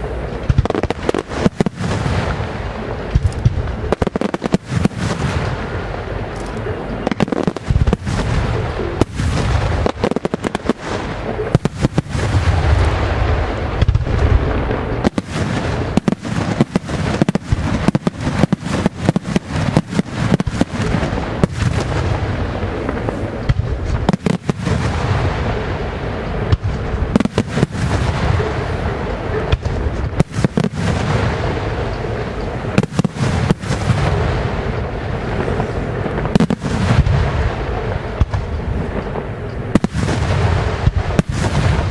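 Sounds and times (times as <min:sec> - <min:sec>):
fireworks rumble and crackle: 0:00.0 - 0:41.9.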